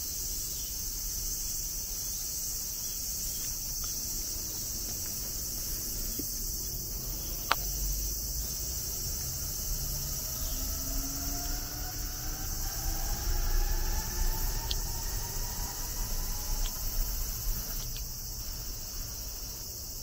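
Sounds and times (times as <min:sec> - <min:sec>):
insects singing: 0:00.0 - 0:20.0.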